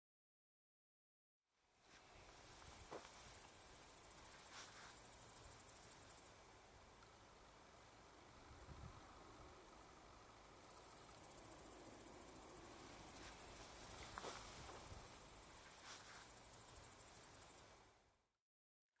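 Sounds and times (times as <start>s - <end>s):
cricket chirping: 2.3s - 18.2s.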